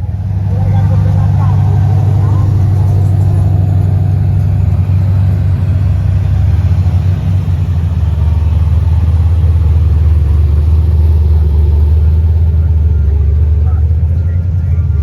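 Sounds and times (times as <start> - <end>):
truck engine exhaust rumble: 0.0 - 15.0.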